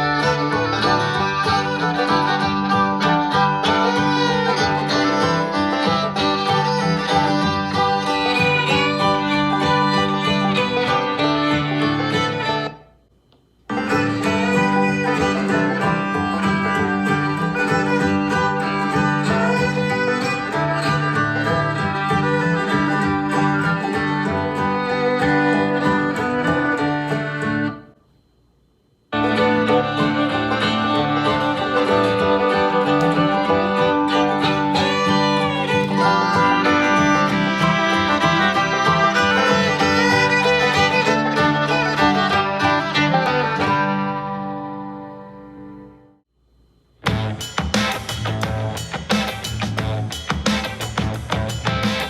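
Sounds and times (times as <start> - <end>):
country music over speakers: 0.0 - 12.8, 13.7 - 27.8, 29.2 - 46.0.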